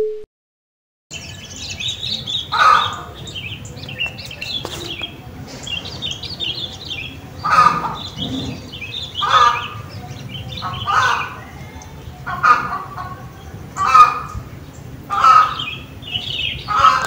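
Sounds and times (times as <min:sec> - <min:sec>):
small birds chirping: 0:01.1 - 0:17.0.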